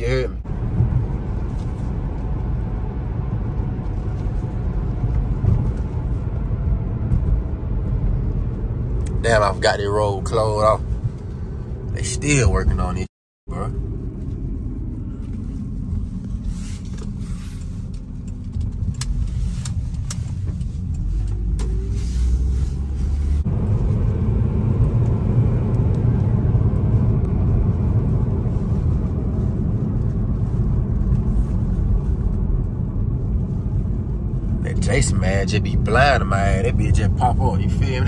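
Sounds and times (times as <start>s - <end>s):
car engine and road rumble: 0.0s - 38.0s.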